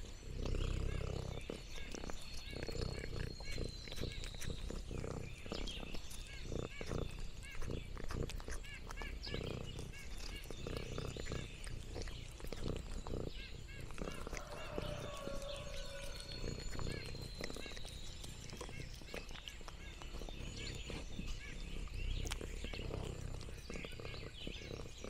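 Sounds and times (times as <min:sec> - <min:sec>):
cat purring: 0:00.0 - 0:25.0
small high chirps: 0:00.5 - 0:24.9.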